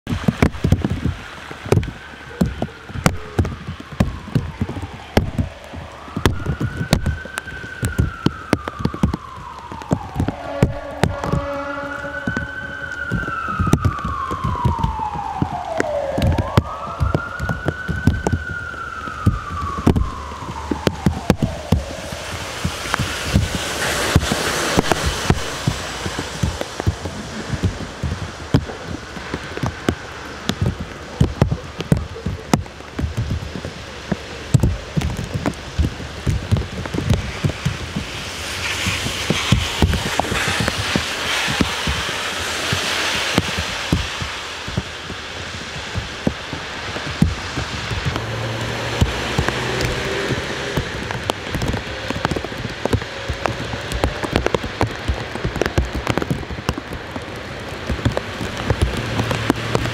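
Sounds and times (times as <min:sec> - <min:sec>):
rain drops tapping: 0:00.0 - 0:59.9
car tyres hissing on wet road: 0:00.1 - 0:59.9
emergency siren wailing: 0:00.1 - 0:59.9.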